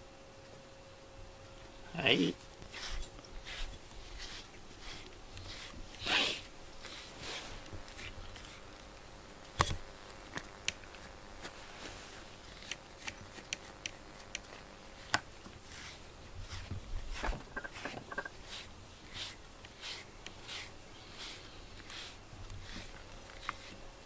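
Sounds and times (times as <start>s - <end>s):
brush rasping through fur: 2.0s - 24.0s.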